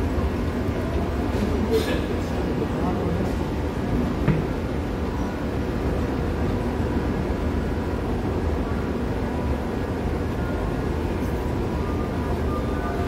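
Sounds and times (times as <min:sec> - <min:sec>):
escalator mechanical rumble: 0:00.0 - 0:13.0
station ambient drone: 0:00.0 - 0:13.0.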